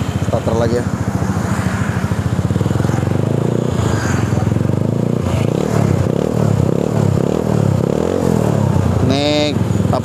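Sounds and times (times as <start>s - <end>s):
scooter engine revving: 0.0s - 10.0s.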